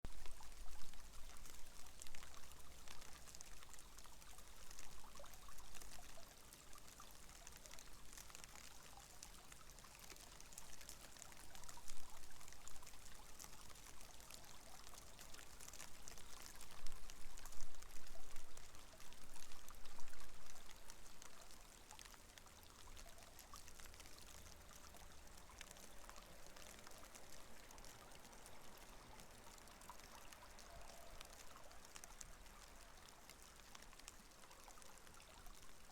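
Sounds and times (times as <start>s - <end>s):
water running along canal: 0.1s - 35.9s.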